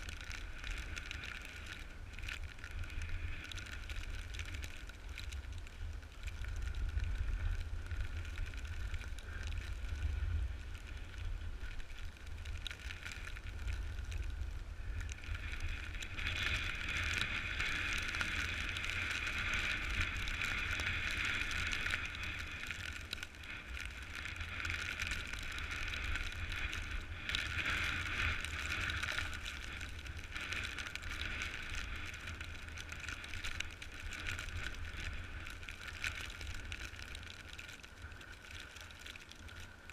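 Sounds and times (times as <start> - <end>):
snowboard sliding over snow: 0.0 - 39.9.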